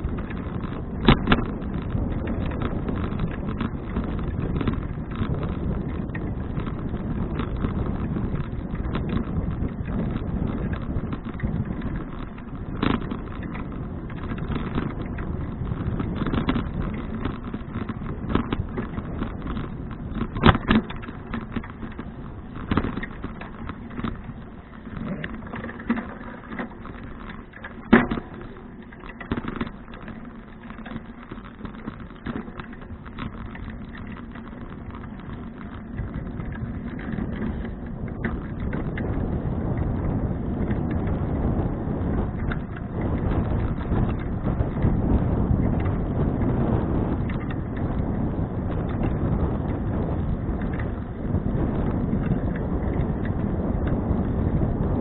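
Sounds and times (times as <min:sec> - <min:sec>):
bicycle knocks and rattles: 0:00.0 - 0:55.0
bicycle tyres rumbling: 0:00.0 - 0:55.0.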